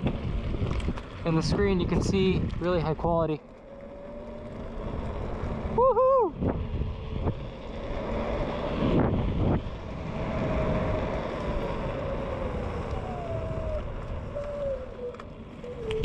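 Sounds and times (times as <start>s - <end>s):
electric motor whine: 0.0s - 16.0s
low road rumble: 0.0s - 16.0s
wind on microphone: 0.0s - 16.0s.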